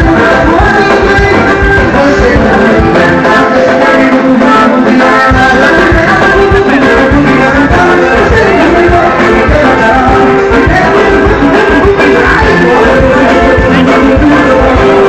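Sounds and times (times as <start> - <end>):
loud band music: 0.0 - 15.0.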